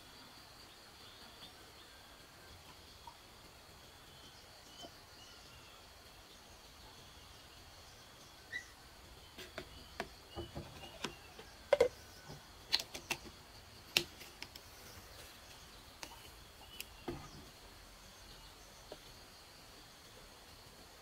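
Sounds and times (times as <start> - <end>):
faint steady high hum: 0.0 - 21.0.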